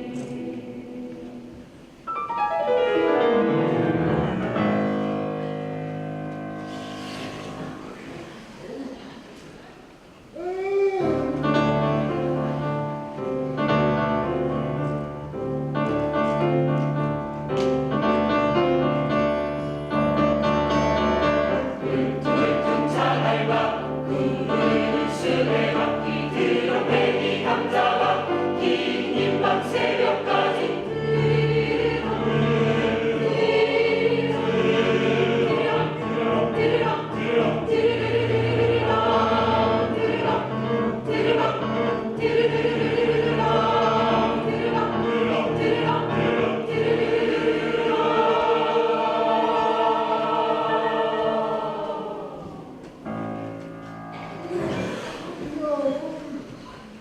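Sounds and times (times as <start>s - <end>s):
choir singing: 0.0s - 9.8s, 11.0s - 53.5s.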